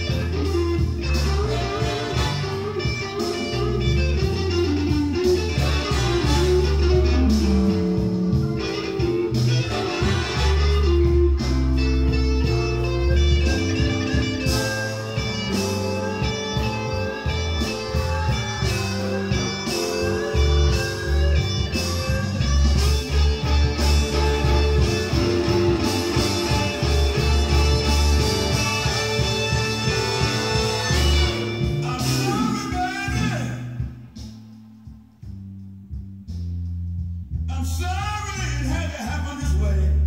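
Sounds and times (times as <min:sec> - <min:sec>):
blues recording on hi-fi: 0:00.0 - 0:40.0.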